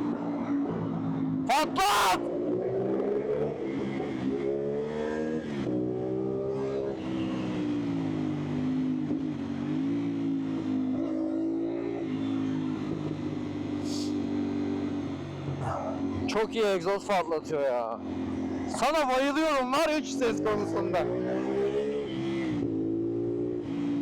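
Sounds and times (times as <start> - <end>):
motorcycle engine revving: 2.2 - 16.7, 18.0 - 19.3, 20.0 - 24.0.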